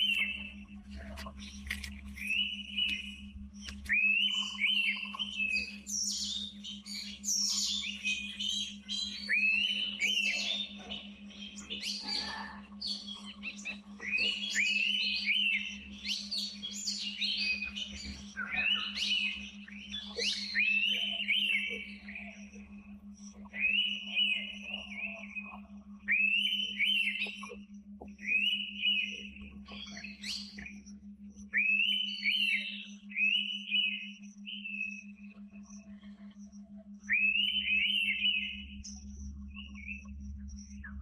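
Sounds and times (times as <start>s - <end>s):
birds whistling: 0.0s - 41.0s
high busy bird chirps: 0.0s - 41.0s
steady low hum: 0.0s - 41.0s.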